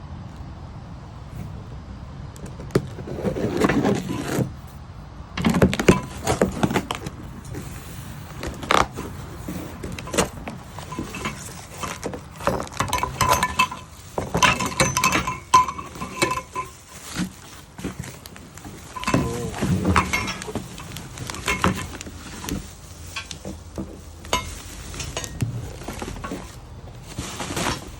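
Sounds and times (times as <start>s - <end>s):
metal parts clinking and knocking: 5.4s - 27.9s.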